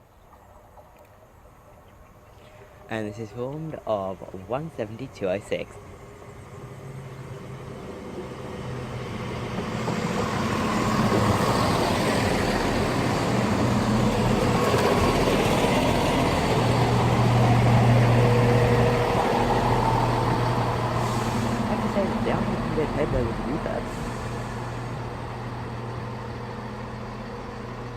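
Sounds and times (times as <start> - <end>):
diesel train engines humming: 2.7 - 27.9.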